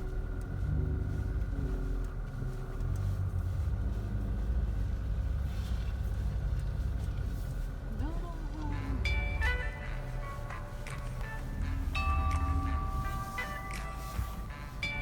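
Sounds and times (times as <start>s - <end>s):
engine and tyres rumble: 0.0s - 15.0s.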